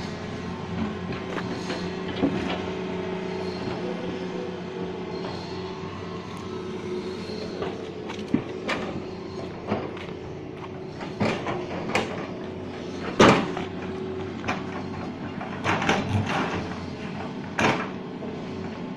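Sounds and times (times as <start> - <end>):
excavator diesel engines running: 0.0 - 18.9.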